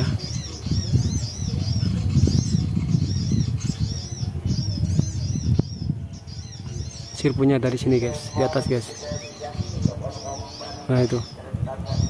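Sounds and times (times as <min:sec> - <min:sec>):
birds chirping rapidly: 0:00.0 - 0:12.0.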